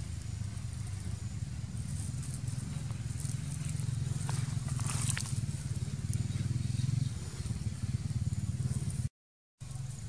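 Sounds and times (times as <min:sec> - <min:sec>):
engine running low rumble: 0:00.0 - 0:10.0.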